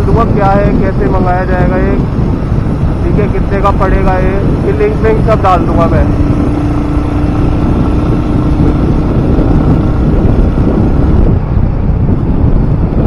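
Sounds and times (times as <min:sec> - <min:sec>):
motorcycle engine running: 0:00.0 - 0:13.0
steady low hum: 0:00.0 - 0:13.0
wind buffeting microphone: 0:00.0 - 0:13.0.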